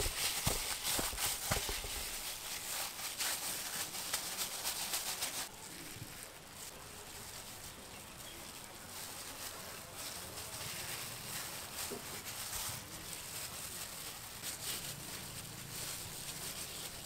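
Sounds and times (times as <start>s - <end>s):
handling mashed potato: 0.0s - 17.0s.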